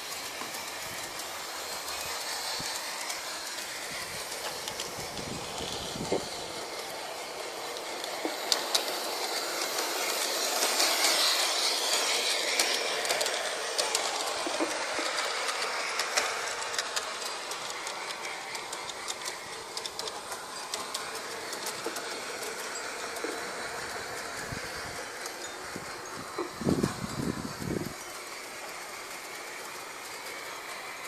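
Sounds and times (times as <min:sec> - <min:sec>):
model train running on track: 0:00.0 - 0:31.0
wheels clicking over rails: 0:00.0 - 0:31.0.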